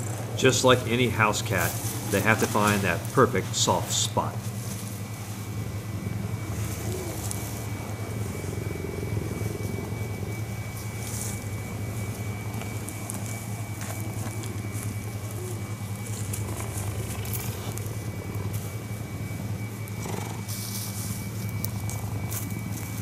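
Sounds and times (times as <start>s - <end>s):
cheetah purring: 0.0s - 23.0s.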